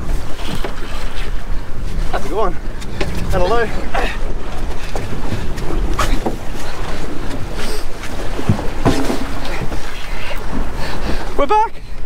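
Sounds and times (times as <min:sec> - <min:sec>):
choppy sea against boat hull: 0:00.0 - 0:12.0
wind buffeting microphone: 0:00.0 - 0:12.0.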